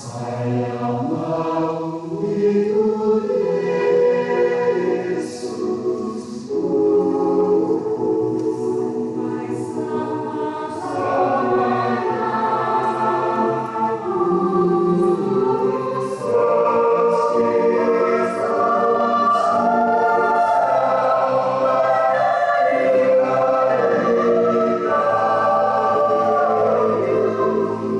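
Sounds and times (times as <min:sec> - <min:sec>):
choir singing a hymn: 0:00.0 - 0:27.9.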